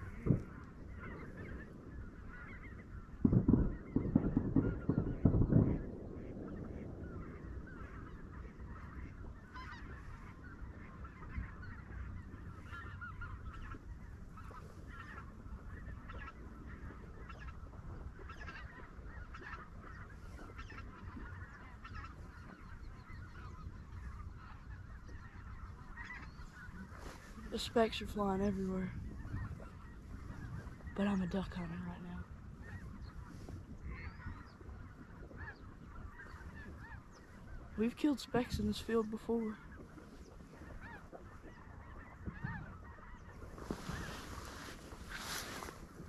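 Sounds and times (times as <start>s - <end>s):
geese calling in flight: 0.0s - 46.0s.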